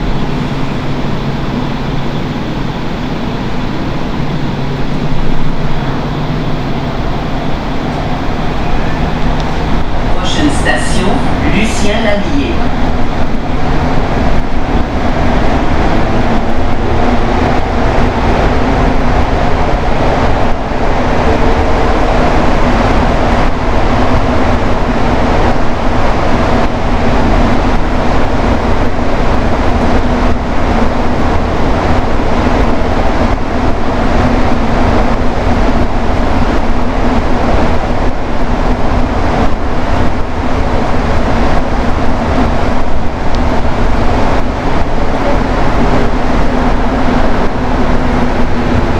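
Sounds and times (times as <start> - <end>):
metro train rumbling: 0.0 - 48.9.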